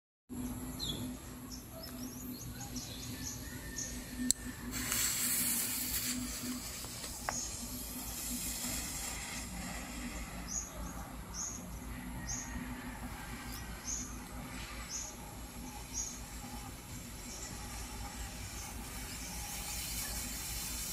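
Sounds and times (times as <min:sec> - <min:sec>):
small birds chirping: 0:00.3 - 0:20.9
firework fuse hissing: 0:03.2 - 0:20.9.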